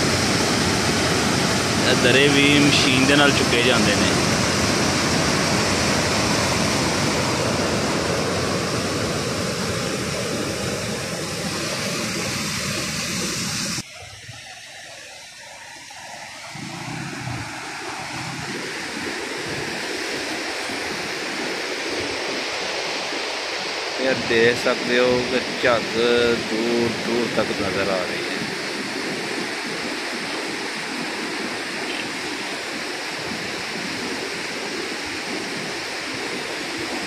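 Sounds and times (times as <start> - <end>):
water rushing through sluice gate: 0.0 - 37.0.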